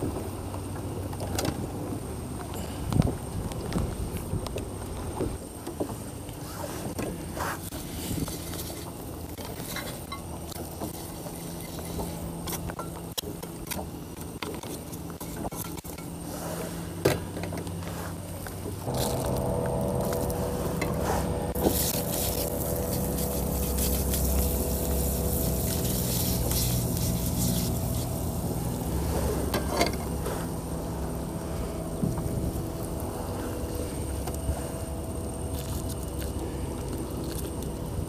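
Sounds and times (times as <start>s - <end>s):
low steady hum: 0.0s - 38.0s
louder steady hum: 6.8s - 38.0s.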